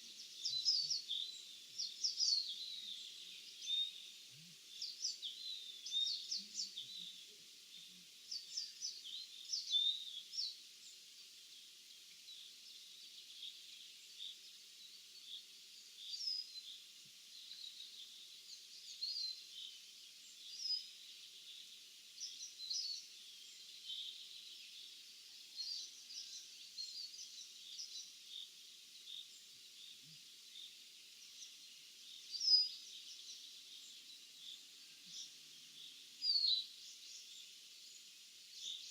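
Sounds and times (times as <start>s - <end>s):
faint background hiss: 0.0s - 38.9s
small birds chirping: 0.0s - 38.9s.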